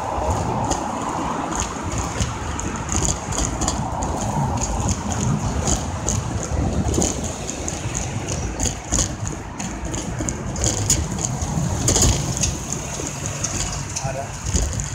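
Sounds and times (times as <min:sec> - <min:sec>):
car road and engine rumble: 0:00.0 - 0:14.9
knocks from road bumps: 0:00.0 - 0:14.9.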